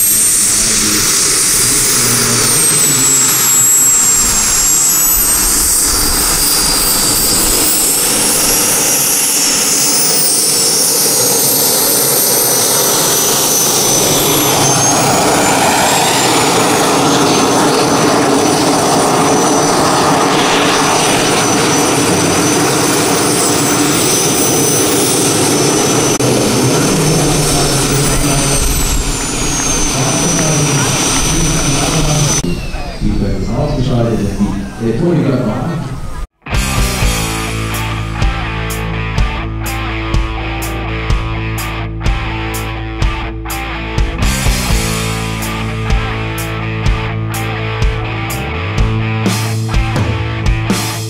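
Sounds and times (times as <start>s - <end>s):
jet turbine engine whining: 0.0s - 39.9s, 41.7s - 50.1s.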